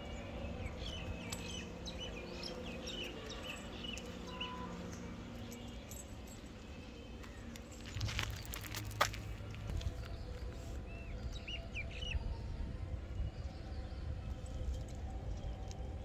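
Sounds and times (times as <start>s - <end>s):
birds chirping: 0.0s - 14.6s
outdoor background noise: 0.0s - 16.0s.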